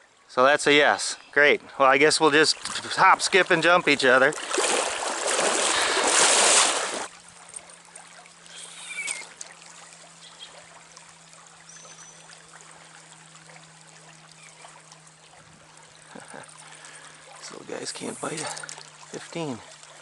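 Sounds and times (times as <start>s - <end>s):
stream water trickling: 0.0s - 20.0s.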